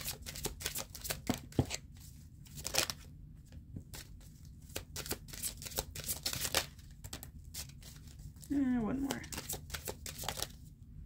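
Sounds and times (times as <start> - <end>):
cards being shuffled: 0.0 - 3.1, 3.8 - 10.6.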